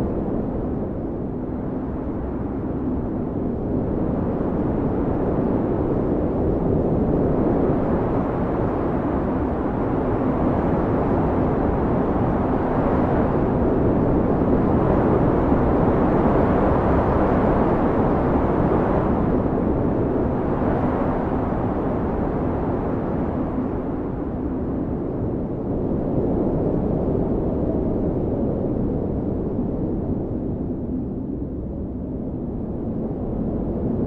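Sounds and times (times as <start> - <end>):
howling blizzard wind: 0.0 - 34.0.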